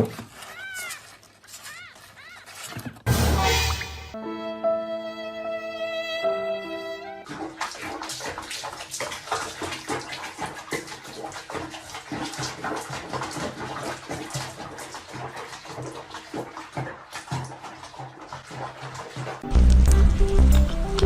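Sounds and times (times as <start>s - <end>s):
water splashing in a bath: 0.0s - 3.8s, 7.2s - 21.0s.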